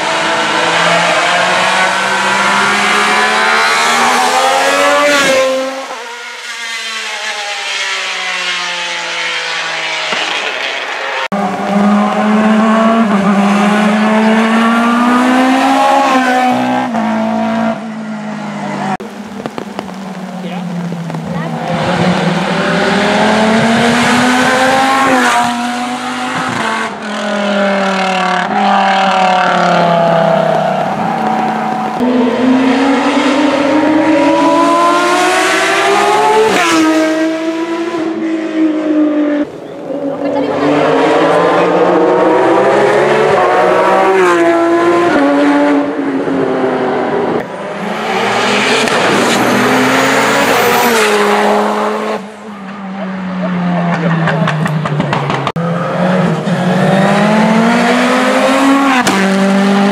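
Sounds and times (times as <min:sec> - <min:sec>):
racing cars at full throttle: 0:00.0 - 0:59.9.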